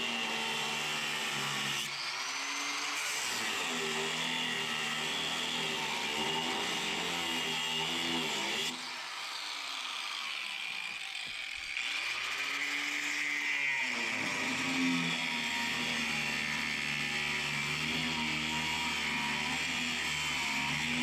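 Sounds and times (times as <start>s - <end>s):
angle grinder cutting steel: 0.0s - 21.0s.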